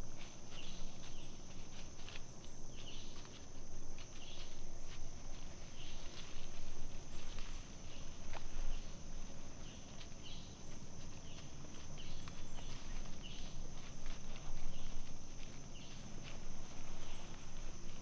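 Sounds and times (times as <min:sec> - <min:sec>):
insects buzzing: 0:00.0 - 0:18.0
rustling and steps in leaves: 0:00.0 - 0:18.0.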